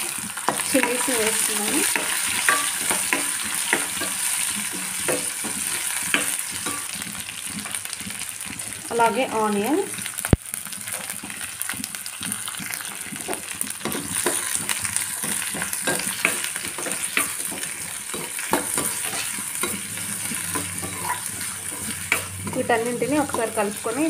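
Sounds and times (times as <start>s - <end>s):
spatula scraping and tapping pan: 0.0s - 9.1s, 9.9s - 24.0s
vegetables sizzling in hot oil: 0.0s - 24.0s.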